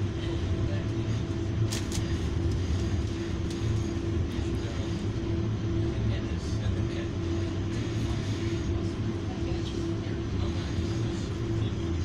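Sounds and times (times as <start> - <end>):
electric train interior hum: 0.0 - 12.0
mid-pitched whine: 0.0 - 12.0.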